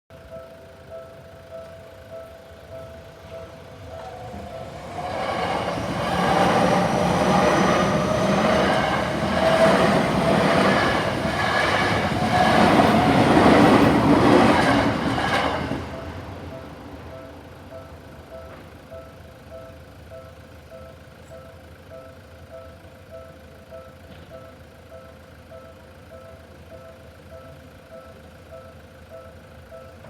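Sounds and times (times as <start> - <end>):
crossing warning bells ringing: 0.1 - 30.0
electric train passing: 0.1 - 30.0.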